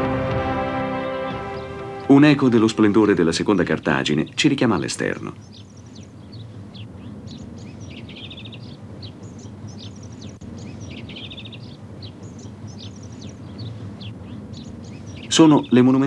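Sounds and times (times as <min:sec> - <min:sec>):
low background rumble: 0:00.0 - 0:16.0
small birds chirping: 0:00.7 - 0:16.0.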